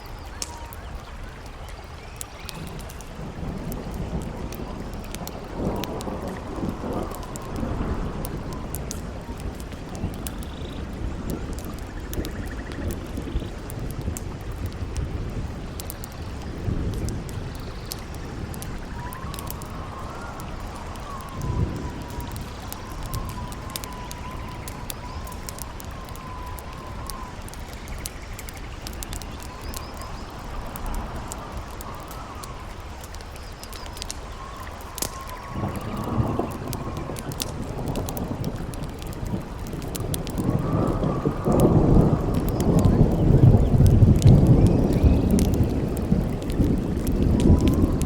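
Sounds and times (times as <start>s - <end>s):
campfire crackling and popping: 0.0s - 48.0s
howling wind: 0.0s - 48.0s.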